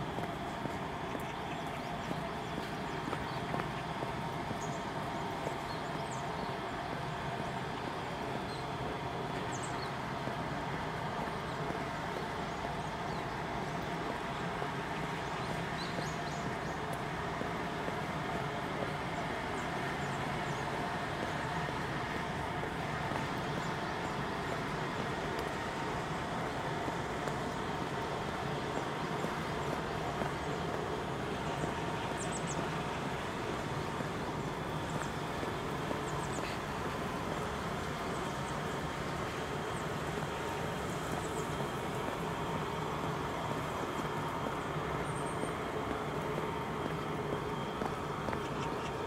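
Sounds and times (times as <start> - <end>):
traffic hum: 0.0 - 49.0.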